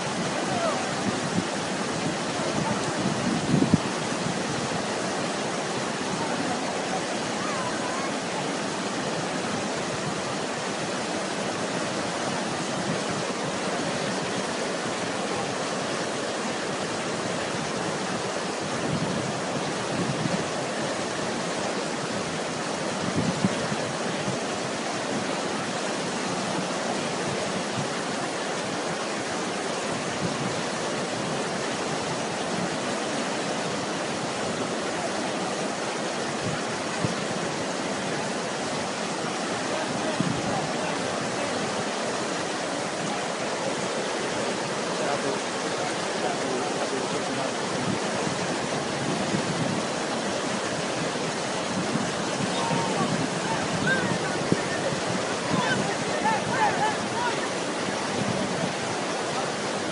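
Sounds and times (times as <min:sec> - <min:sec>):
floodwater rushing in river: 0:00.0 - 0:59.9.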